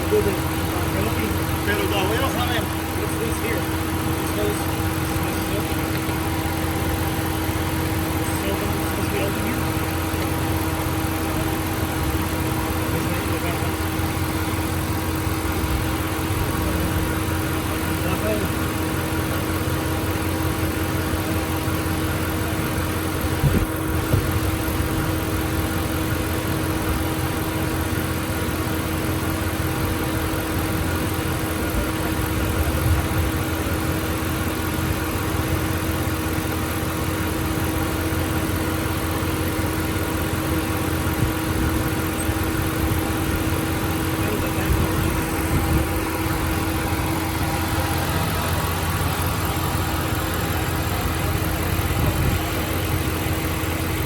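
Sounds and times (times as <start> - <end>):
pickup truck engine idling: 0.0 - 54.0.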